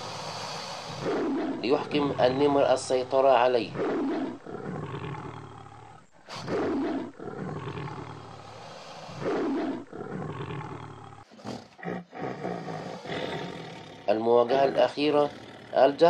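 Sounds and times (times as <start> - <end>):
big cat roaring: 0.0 - 16.0.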